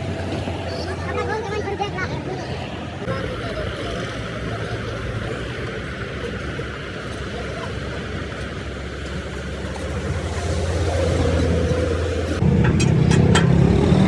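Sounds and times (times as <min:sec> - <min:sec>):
approaching vehicle engine hum: 0:00.0 - 0:14.0
road traffic engines: 0:00.0 - 0:14.0.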